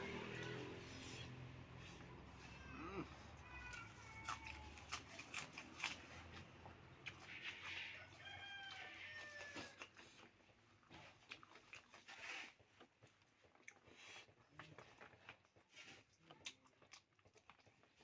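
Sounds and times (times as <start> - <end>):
light clicks of eating: 3.6 - 18.0.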